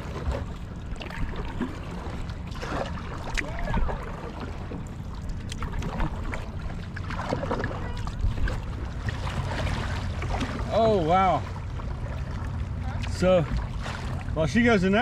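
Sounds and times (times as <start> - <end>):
paddle splashes and drips: 0.0 - 14.6
steady low rumble: 0.0 - 15.0
water lapping at hull: 0.0 - 15.0.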